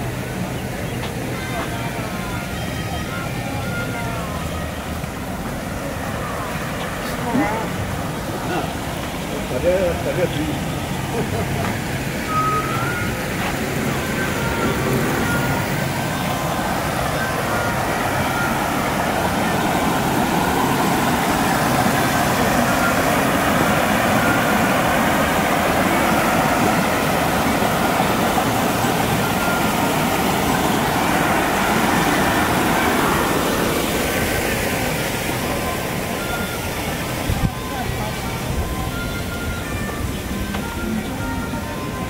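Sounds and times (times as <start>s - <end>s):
water rushing down rocks: 0.0s - 42.0s.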